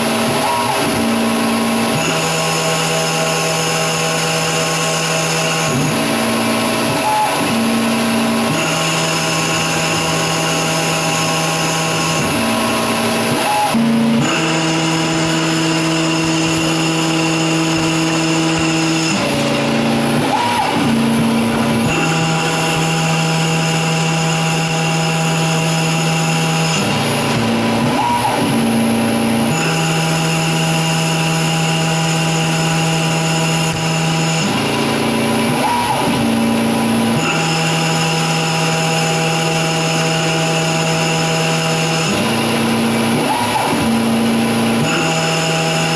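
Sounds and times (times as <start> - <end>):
lathe motors whining: 0.0 - 45.9.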